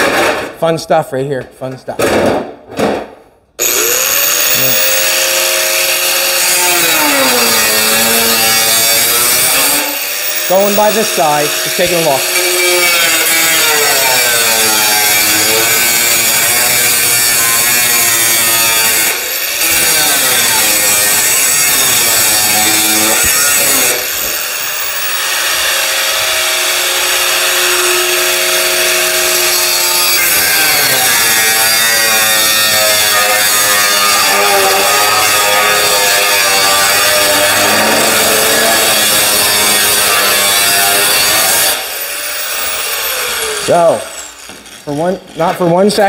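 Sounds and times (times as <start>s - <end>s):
power tool cutting metal: 3.6s - 46.0s.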